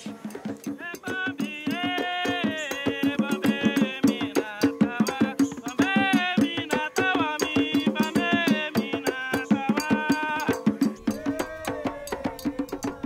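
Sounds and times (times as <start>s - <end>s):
hand drums: 0.0s - 13.0s
voices singing: 0.0s - 13.0s.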